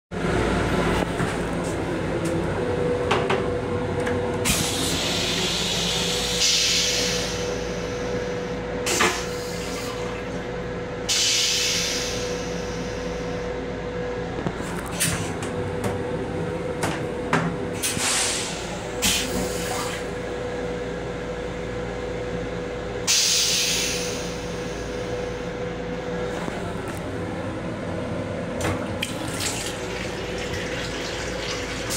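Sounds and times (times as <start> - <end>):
train low rumble: 0.1 - 31.9.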